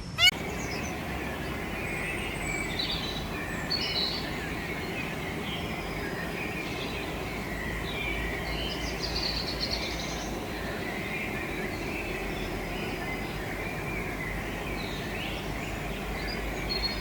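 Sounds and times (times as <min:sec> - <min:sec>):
birds chirping: 0:00.0 - 0:17.0
outdoor background hiss: 0:00.0 - 0:17.0.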